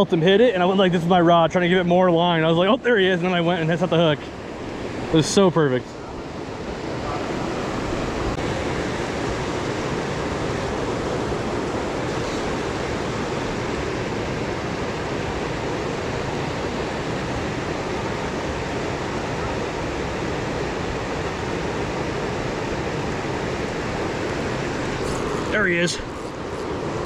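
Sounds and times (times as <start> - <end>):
river water rushing: 0.6 - 27.0.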